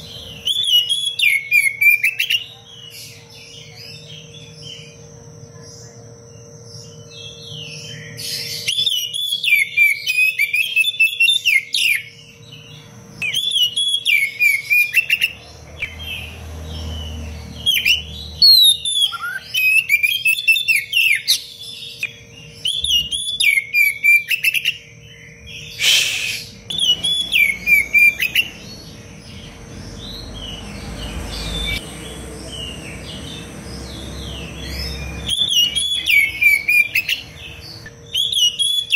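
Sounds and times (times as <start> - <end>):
bird singing chirps and whistles: 0.0 - 31.9, 32.5 - 38.9.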